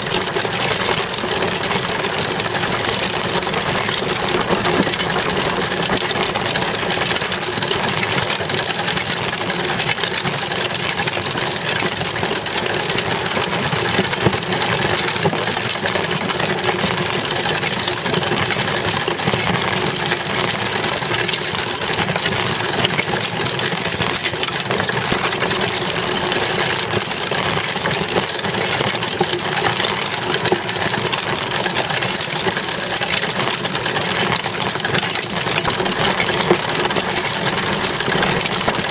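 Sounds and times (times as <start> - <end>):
bicycle rolling over asphalt: 0.0 - 38.9.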